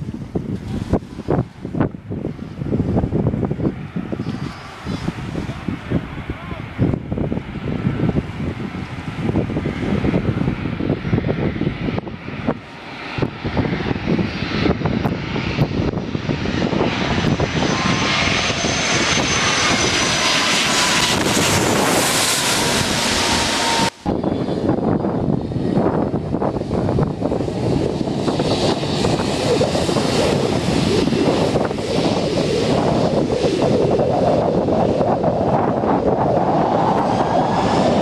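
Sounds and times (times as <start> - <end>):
jet plane passing overhead: 0.0 - 38.0
steady rushing noise: 0.0 - 38.0.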